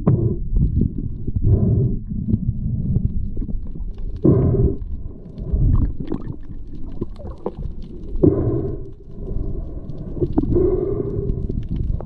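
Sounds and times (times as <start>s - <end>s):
scattered underwater clicks: 0.0s - 12.0s
underwater churning rumble: 0.0s - 12.0s.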